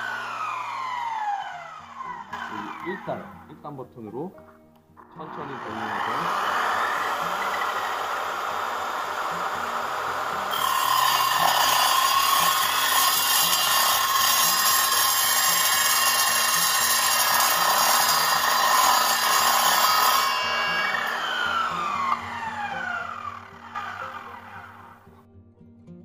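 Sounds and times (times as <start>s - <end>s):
saw blade whine: 0.0s - 3.7s, 5.2s - 25.1s
saw blade grinding through steel: 1.9s - 3.6s, 5.2s - 25.1s.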